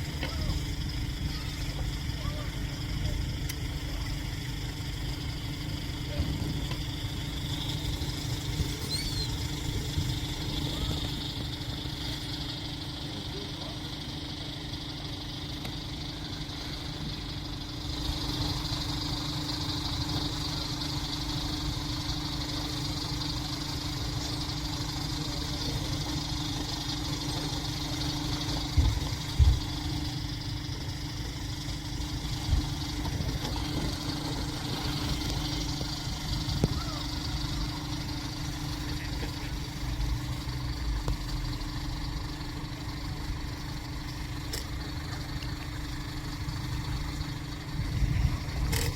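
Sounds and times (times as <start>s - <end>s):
engine hum: 0.0s - 48.9s.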